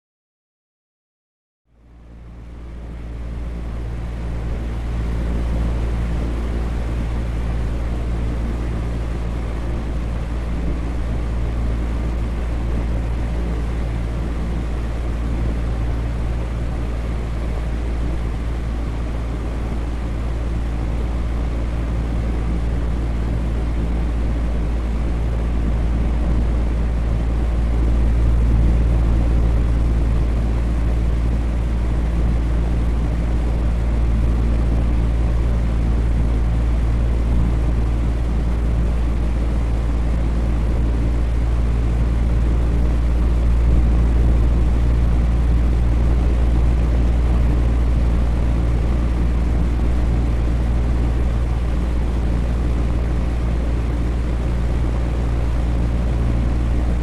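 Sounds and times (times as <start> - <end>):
electric fan running: 2.8 - 57.0.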